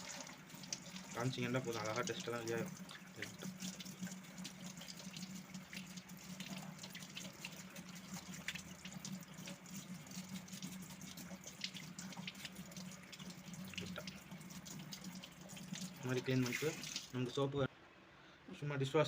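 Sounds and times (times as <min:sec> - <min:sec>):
tap water running: 0:00.0 - 0:17.2.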